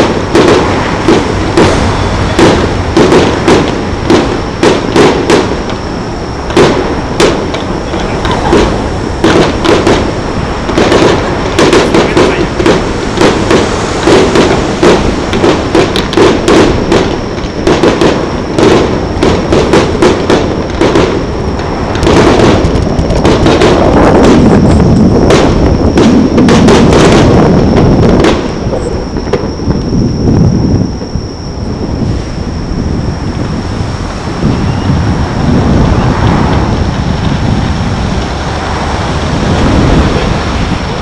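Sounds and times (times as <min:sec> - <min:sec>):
fireworks bangs: 0:00.0 - 0:41.0
steady rushing noise: 0:00.0 - 0:41.0.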